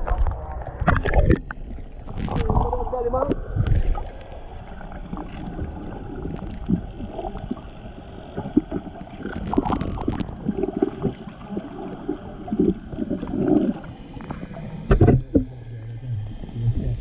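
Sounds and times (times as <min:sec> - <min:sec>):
underwater clicks and gurgles: 0:00.0 - 0:17.0
underwater rumble: 0:00.0 - 0:17.0.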